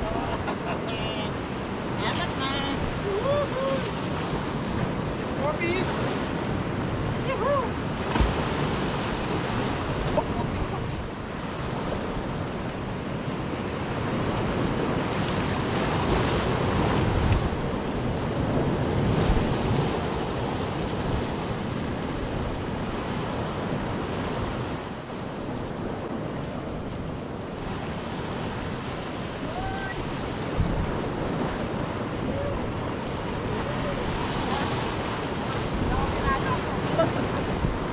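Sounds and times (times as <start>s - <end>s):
sea waves breaking on rocks: 0.0s - 37.9s
wind buffeting microphone: 1.4s - 37.9s.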